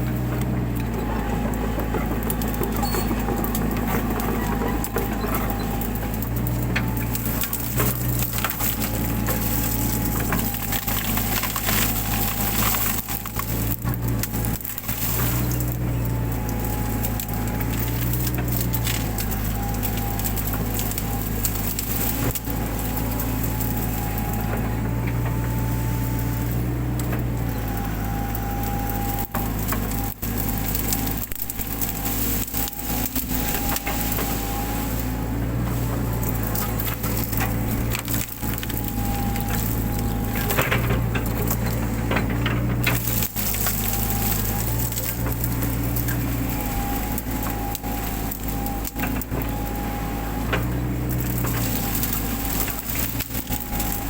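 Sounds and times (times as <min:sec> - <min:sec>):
branches cracking and snapping: 0:00.0 - 0:54.0
diesel engine running: 0:00.0 - 0:54.0
hydraulic whine: 0:00.0 - 0:54.0.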